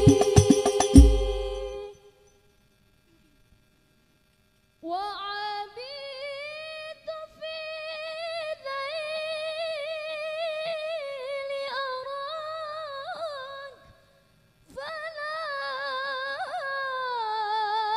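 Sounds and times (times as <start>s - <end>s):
woman singing unaccompanied: 0.0s - 2.1s, 4.8s - 14.0s, 14.7s - 17.9s.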